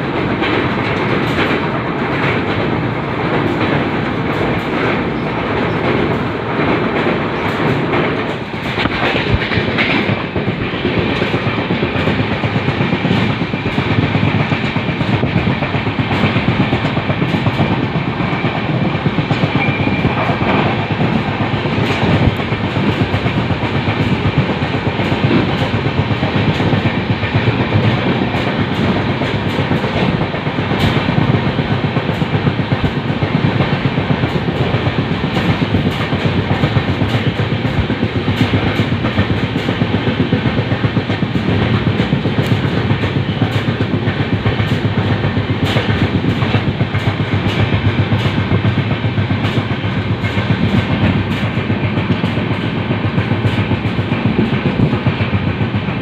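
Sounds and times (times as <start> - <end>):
train coach rumbling: 0.0 - 56.0
wheels clicking and rattling: 0.1 - 56.0.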